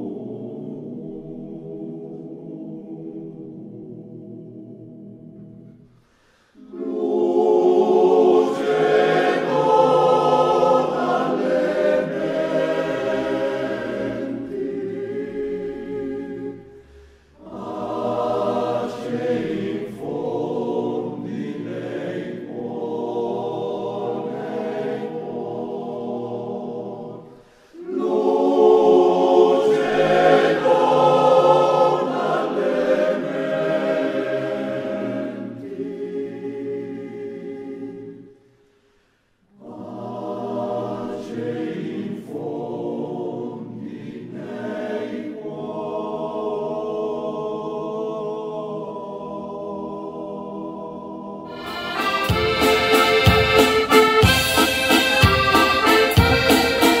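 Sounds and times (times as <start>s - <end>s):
choir singing sustained phrases: 0.0s - 57.0s.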